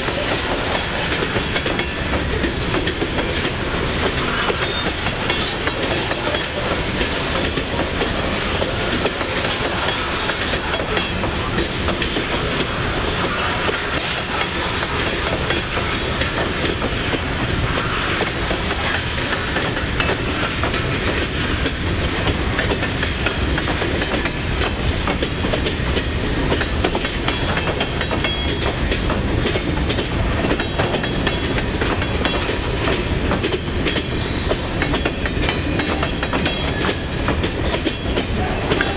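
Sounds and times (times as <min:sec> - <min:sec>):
steel wheels rumbling on rails: 0:00.0 - 0:38.9
wheels clacking over rail joints: 0:00.0 - 0:38.9.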